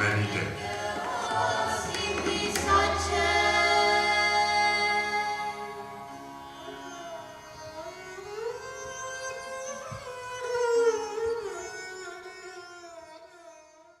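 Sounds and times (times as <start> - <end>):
sliding string instrument melody: 0.0 - 14.0.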